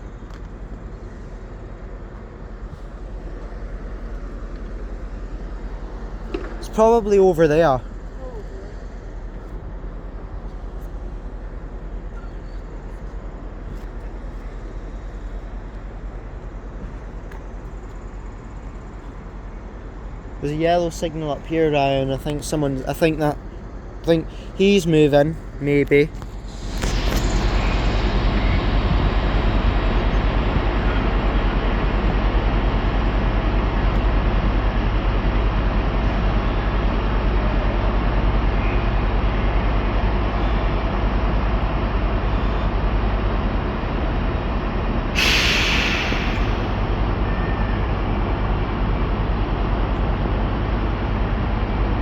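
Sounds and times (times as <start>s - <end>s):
railway station rumble: 0.0s - 52.0s
train engine drone: 0.0s - 52.0s.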